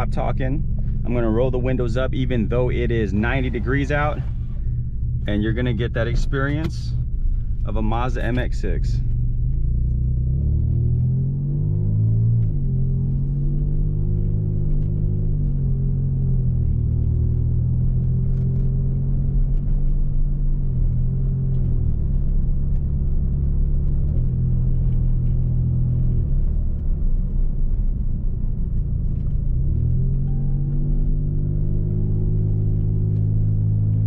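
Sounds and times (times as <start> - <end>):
car engine drone from inside cabin: 0.0 - 34.0.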